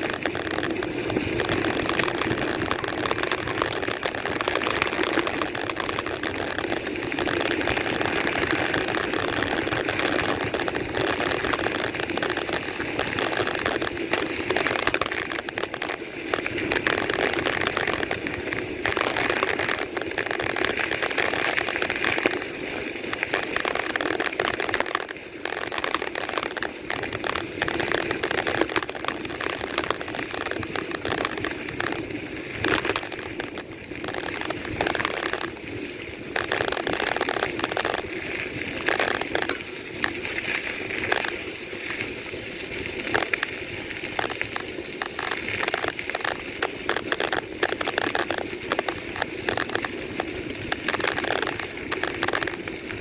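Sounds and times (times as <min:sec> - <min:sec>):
bicycle tyres on rough path: 0:00.0 - 0:53.0.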